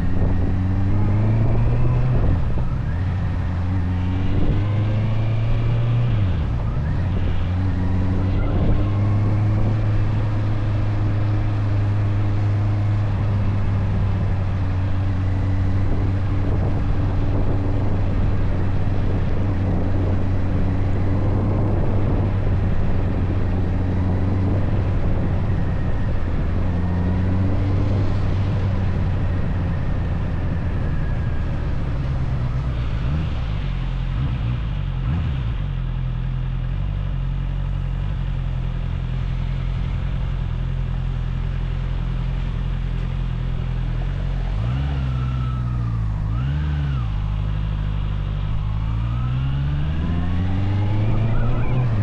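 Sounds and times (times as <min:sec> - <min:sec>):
road and wind noise: 0:00.0 - 0:52.0.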